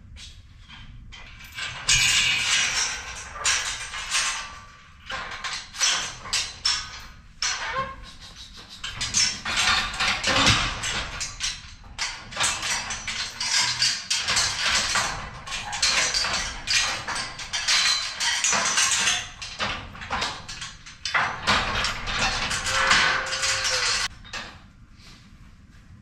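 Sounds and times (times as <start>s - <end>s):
metal clattering: 1.2s - 24.6s
knocking and clanking: 1.5s - 24.6s.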